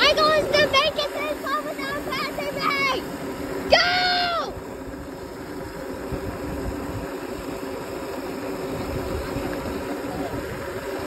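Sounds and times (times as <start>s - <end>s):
faint steady hum: 0.0s - 11.0s
tyres rolling on asphalt: 0.0s - 11.0s.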